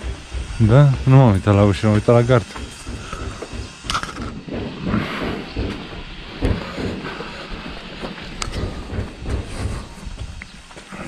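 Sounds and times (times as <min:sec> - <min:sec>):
footsteps on cobblestones: 0:00.0 - 0:11.0
steady low rumble: 0:00.0 - 0:11.0.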